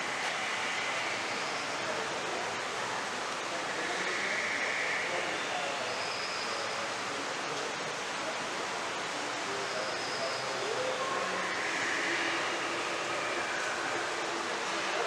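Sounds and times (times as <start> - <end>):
distant voices: 0.0 - 15.0.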